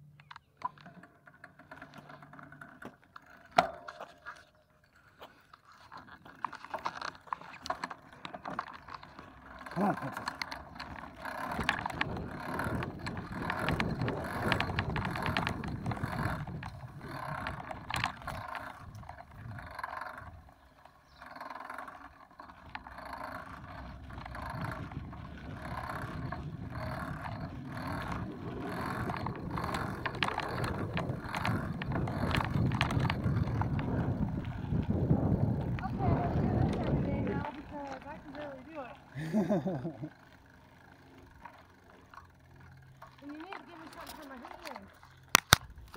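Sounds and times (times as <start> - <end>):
bicycle tyres on gravel: 0.0 - 45.9
rattling clicks: 0.1 - 45.9.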